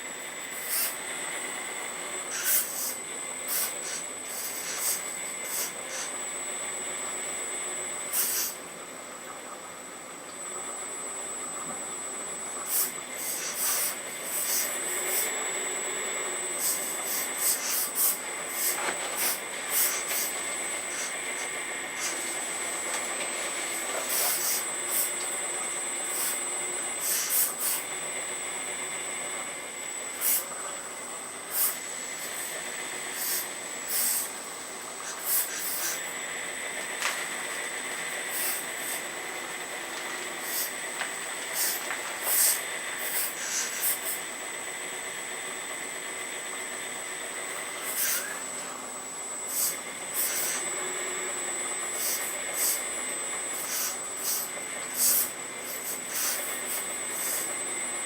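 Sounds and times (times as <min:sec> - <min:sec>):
hydraulic pump whine and hiss: 0:00.0 - 0:58.0.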